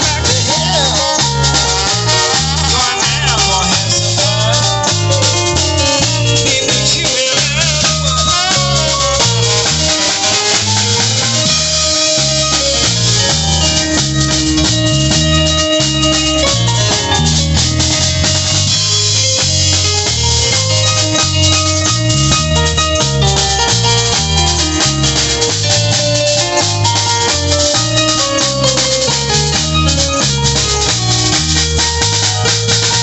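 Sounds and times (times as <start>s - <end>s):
drum kit: 0.0s - 33.0s
live band playing: 0.0s - 33.0s
stepping bass line: 0.0s - 33.0s.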